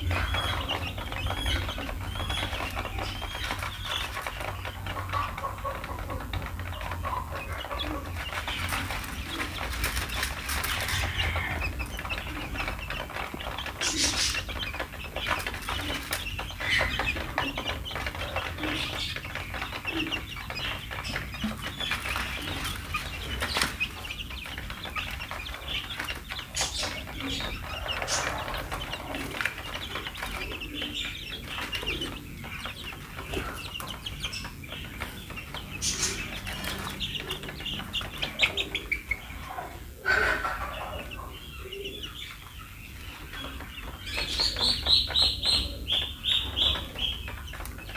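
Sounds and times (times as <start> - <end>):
beaks tapping on feeder: 0.0 - 39.3
chicks peeping: 0.0 - 47.9.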